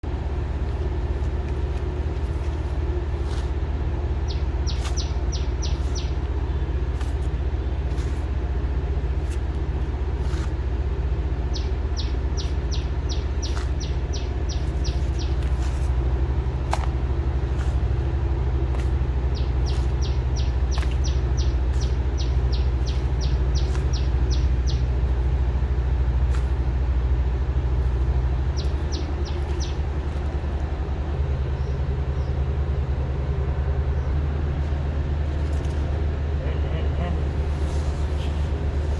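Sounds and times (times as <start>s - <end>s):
low mechanical drone: 0.0s - 38.9s.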